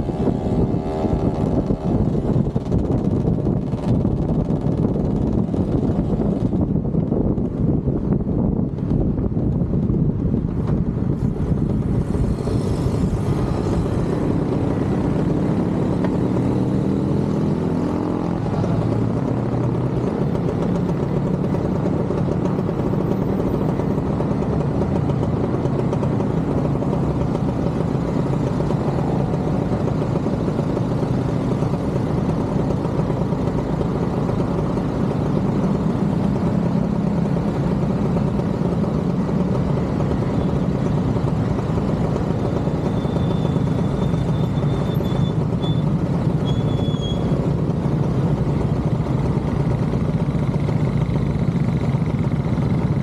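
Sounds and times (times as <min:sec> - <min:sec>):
motorcycle engine running: 0:00.0 - 0:53.0
road noise rushing: 0:00.0 - 0:53.0.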